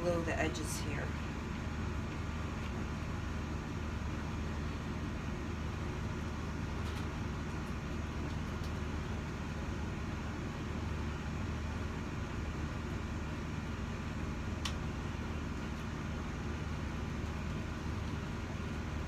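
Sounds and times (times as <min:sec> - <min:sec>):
low mechanical hum with hiss: 0:00.0 - 0:19.0.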